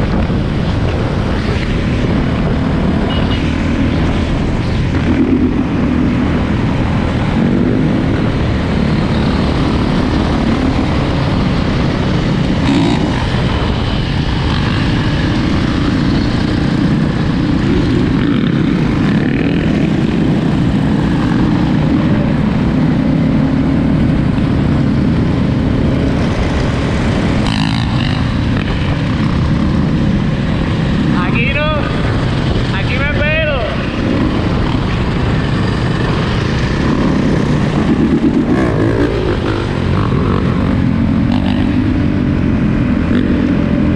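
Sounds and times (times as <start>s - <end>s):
dirt bike engine running: 0.0s - 31.4s, 33.5s - 43.9s
steady rush of noise: 0.0s - 43.9s.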